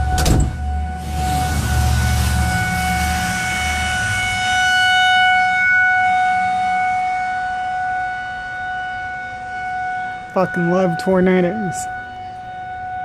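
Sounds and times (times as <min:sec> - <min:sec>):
tornado warning siren wailing: 0:00.0 - 0:13.0.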